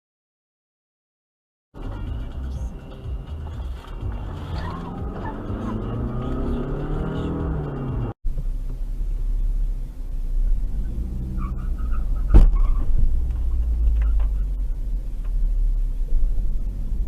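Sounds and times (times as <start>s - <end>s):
car road rumble: 1.8s - 17.0s.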